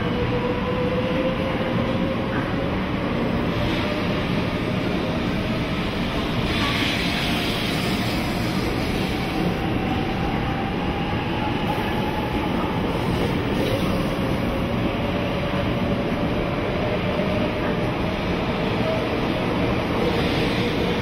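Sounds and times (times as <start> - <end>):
bullet train running past: 0.0 - 21.0.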